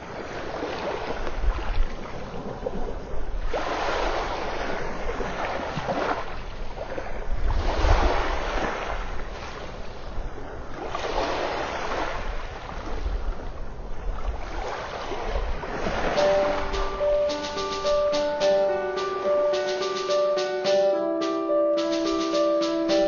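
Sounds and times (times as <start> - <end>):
small waves washing onto beach: 0.0 - 19.6.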